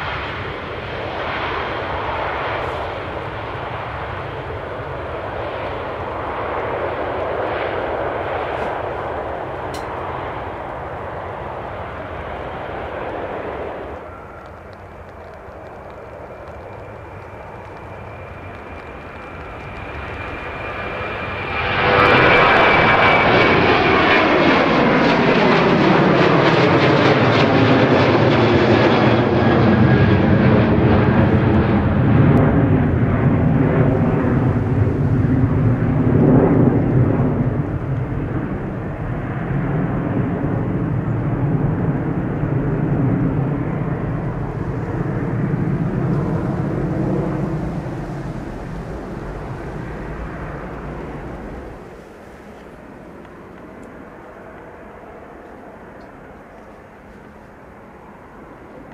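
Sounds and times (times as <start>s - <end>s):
jet engines at high power: 0.0s - 58.9s.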